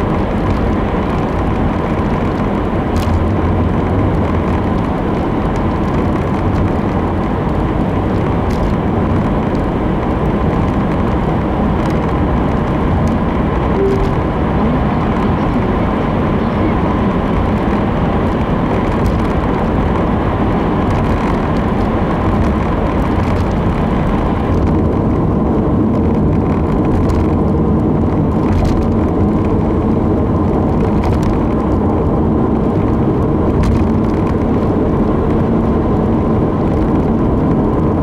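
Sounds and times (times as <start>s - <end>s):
car engine hum: 0.0s - 38.0s
car tyre roar: 0.0s - 38.0s.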